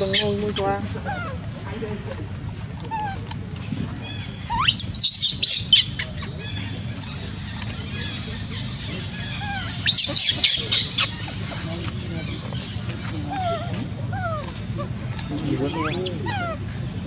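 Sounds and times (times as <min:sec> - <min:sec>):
baby monkey screaming: 0:00.0 - 0:01.6, 0:02.7 - 0:11.6, 0:12.3 - 0:17.0
low background hum: 0:00.0 - 0:17.0.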